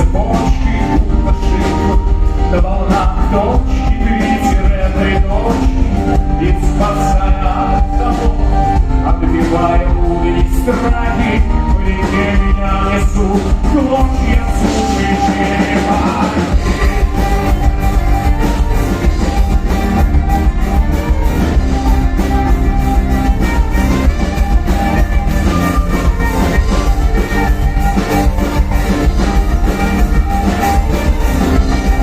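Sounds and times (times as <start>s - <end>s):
folk-rock band playing live: 0.0s - 32.0s
person singing: 0.0s - 32.0s.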